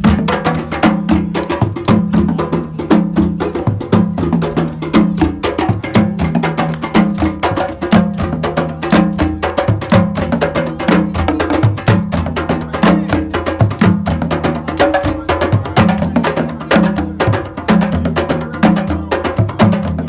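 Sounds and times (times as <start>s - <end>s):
percussion-heavy music: 0.0s - 20.0s.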